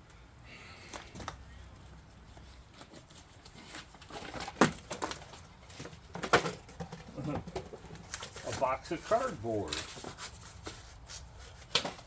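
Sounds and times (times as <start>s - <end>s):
cardboard rustling and scraping: 1.8s - 12.0s.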